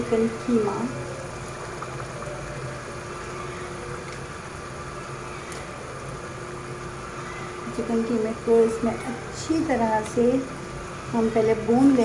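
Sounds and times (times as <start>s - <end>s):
meat sizzling in oil: 0.0s - 12.0s
mechanical hum: 0.0s - 12.0s.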